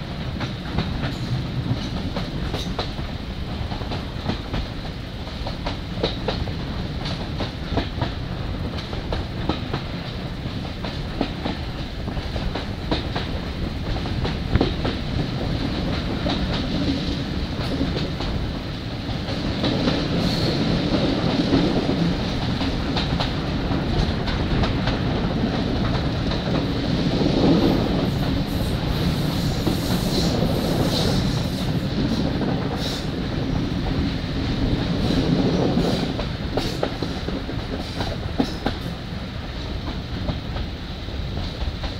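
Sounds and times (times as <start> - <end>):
clickety-clack of rail joints: 0.0 - 41.9
wheels rumbling on rails: 0.0 - 41.9.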